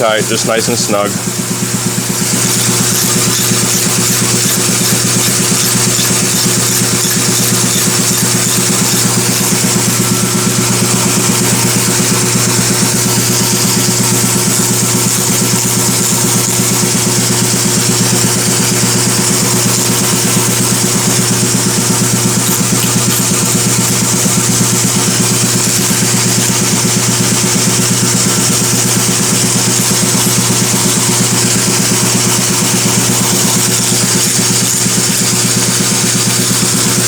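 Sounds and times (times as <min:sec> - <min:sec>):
machine engine drone: 0:00.0 - 0:37.0.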